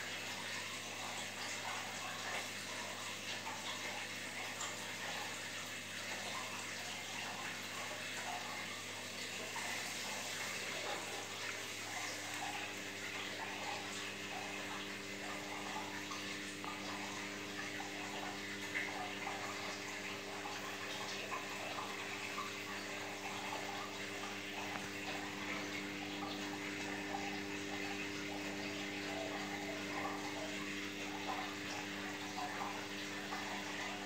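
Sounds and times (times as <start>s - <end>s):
aquarium water splashing: 0.0s - 34.0s
pump motor hum: 0.0s - 34.0s.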